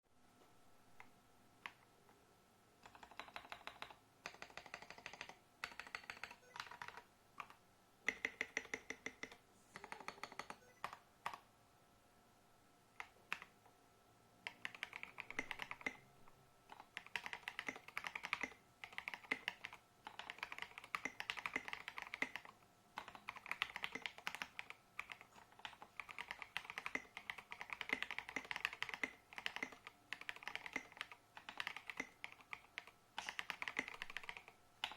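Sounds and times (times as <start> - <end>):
mechanical keyboard typing: 2.8 - 11.4, 13.0 - 13.5, 14.4 - 16.0, 16.7 - 34.9.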